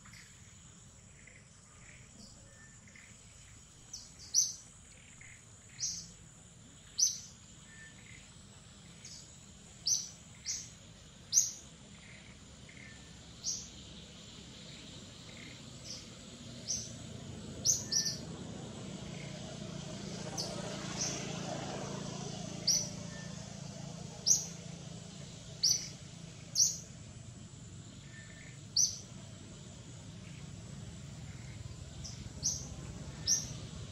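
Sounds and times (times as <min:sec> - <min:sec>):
bird chirping: 0:00.0 - 0:21.5, 0:22.1 - 0:33.9.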